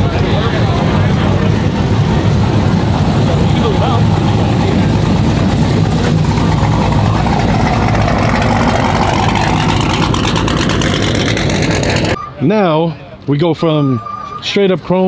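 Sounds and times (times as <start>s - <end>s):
car exhaust rumbling: 0.0s - 12.2s.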